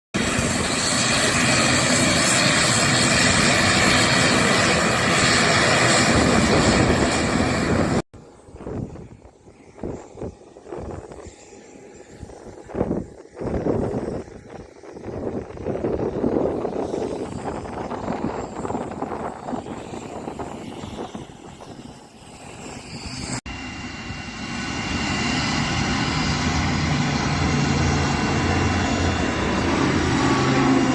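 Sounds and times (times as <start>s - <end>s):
airliner engines roaring: 0.2s - 30.9s.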